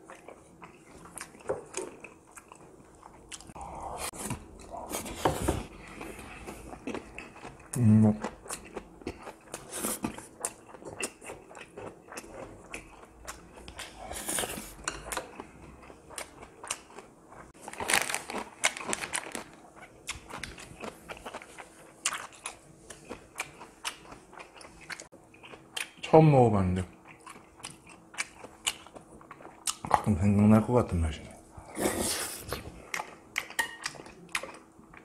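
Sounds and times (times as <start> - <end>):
person chewing food: 0.0 - 26.0, 26.9 - 30.0, 31.6 - 35.0.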